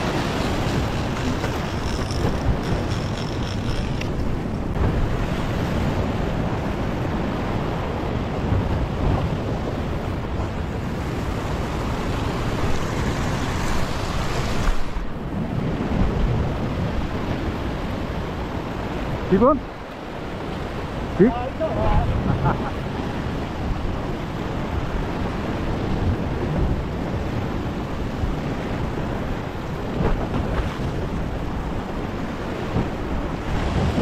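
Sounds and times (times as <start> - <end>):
wind buffeting microphone: 0.0 - 19.3, 20.1 - 34.0
surf washing over rocks: 0.0 - 34.0.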